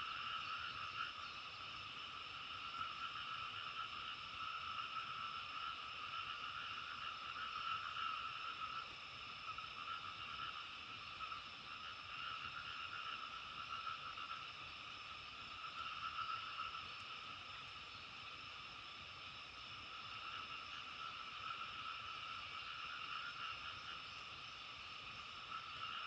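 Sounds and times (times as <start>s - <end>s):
chorus of frogs calling: 0.0s - 26.0s.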